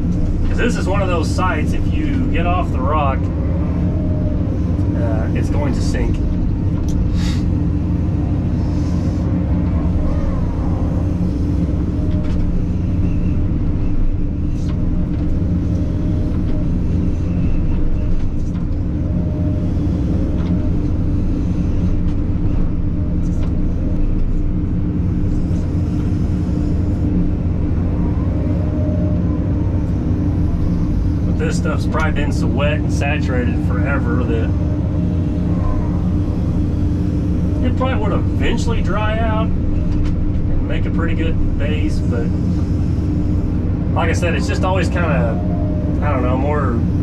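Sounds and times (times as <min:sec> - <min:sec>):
excavator diesel engine: 0:00.0 - 0:47.0.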